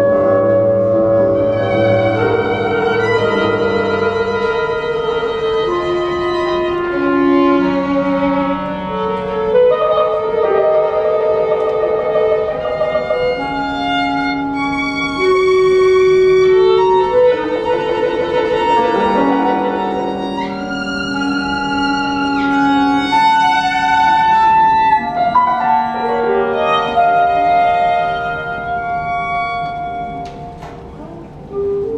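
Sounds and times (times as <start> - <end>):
cello: 0.0 - 31.9
clarinet: 0.0 - 31.9
piano: 0.0 - 31.9
violin: 0.0 - 31.9.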